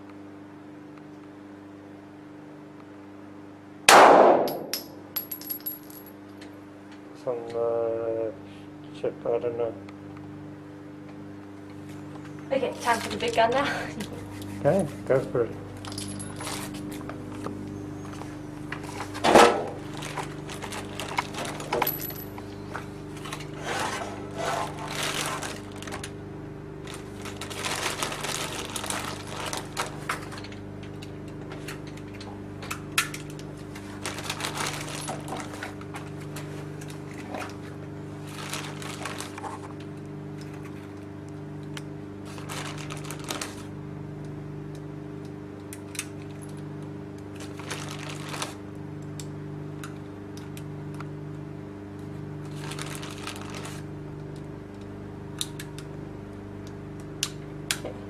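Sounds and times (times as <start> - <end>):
low hum with pulsing tone: 0.0 - 58.0.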